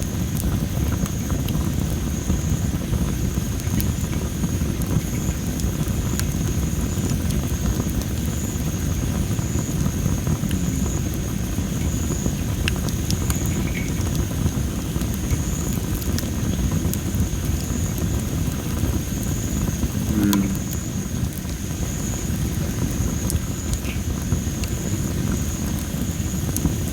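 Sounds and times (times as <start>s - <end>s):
wood fire crackling: 0.0s - 26.9s
insect trill: 1.2s - 26.9s.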